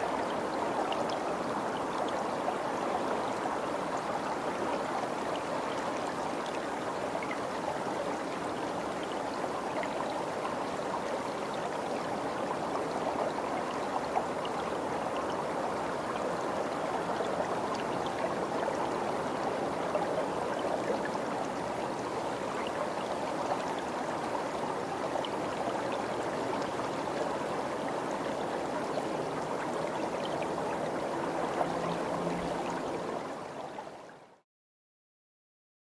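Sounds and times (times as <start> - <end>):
stream water rushing: 0.0 - 34.2.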